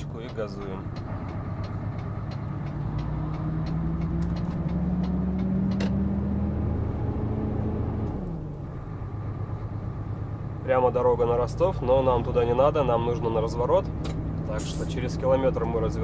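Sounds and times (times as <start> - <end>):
diesel truck engine accelerating: 0.0 - 16.0.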